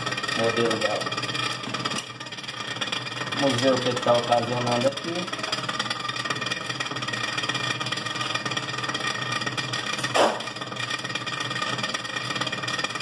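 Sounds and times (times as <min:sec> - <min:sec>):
refrigerator fan rattling and whirring: 0:00.0 - 0:13.0.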